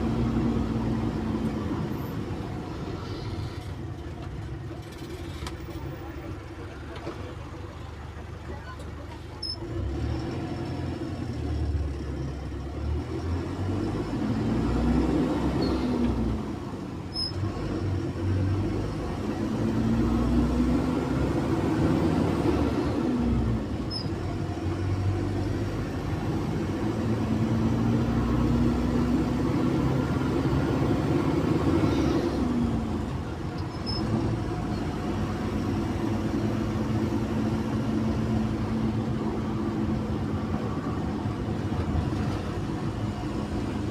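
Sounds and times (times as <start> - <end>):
bus diesel engine accelerating: 0.0 - 43.9.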